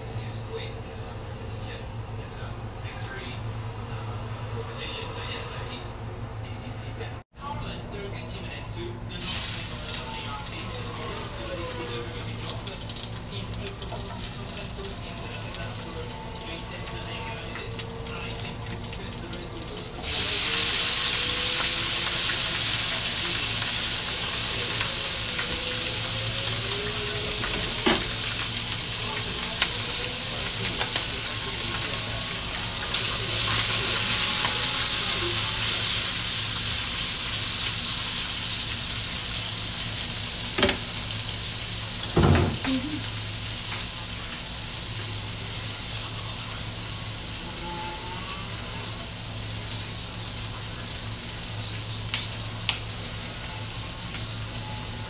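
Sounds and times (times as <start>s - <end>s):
garlic frying in oil: 9.2s - 55.0s
meat sizzling in a pan: 9.2s - 55.0s.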